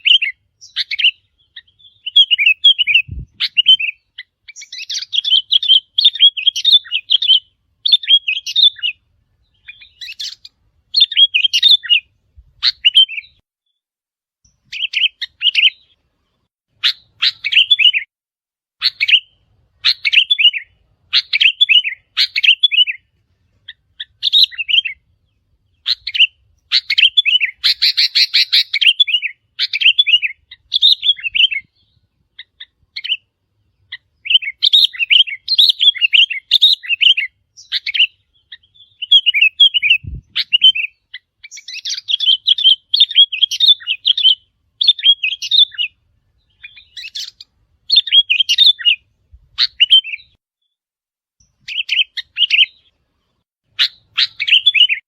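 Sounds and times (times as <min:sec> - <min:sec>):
bird chirping phrases: 0:00.0 - 0:13.8, 0:14.4 - 0:18.1, 0:18.8 - 0:50.8, 0:51.4 - 0:55.0.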